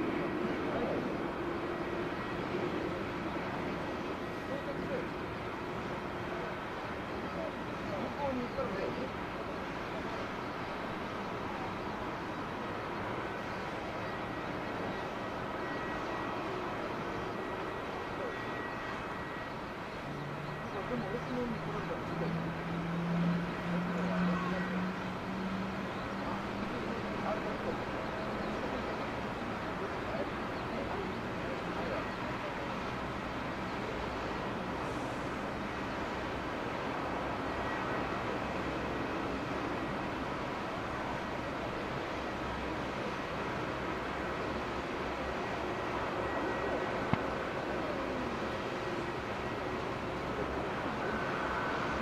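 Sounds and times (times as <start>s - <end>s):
jet engine rumble: 0.0s - 23.7s, 24.4s - 52.0s
faint high whine: 0.0s - 52.0s.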